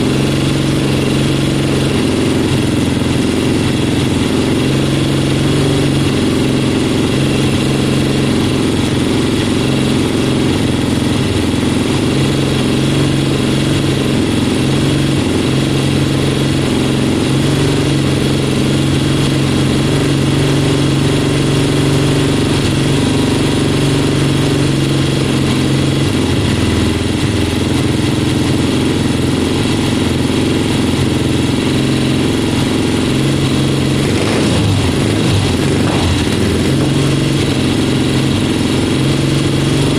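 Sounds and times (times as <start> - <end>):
engine revving: 0.0 - 39.9
motorcycle engine idling: 0.0 - 39.9.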